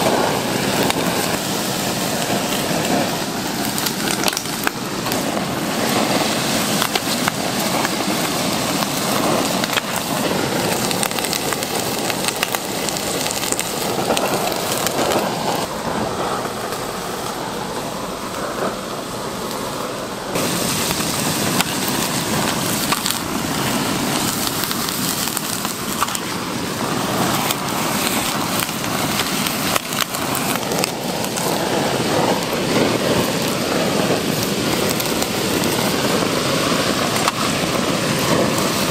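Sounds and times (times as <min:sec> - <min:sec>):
sizzling hiss: 0:00.0 - 0:38.9.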